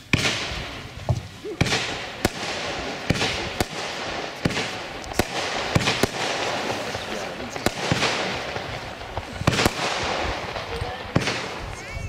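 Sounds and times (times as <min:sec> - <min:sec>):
firework bangs: 0:00.0 - 0:12.0
firework hiss and crackle: 0:00.0 - 0:12.0.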